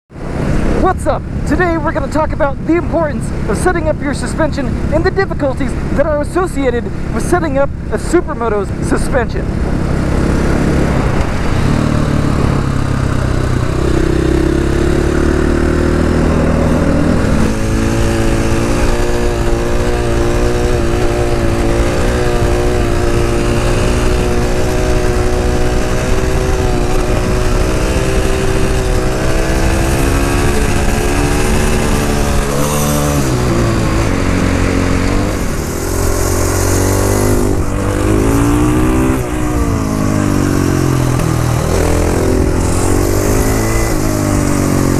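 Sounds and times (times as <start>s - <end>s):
motorcycle engine revving: 0.2s - 44.9s.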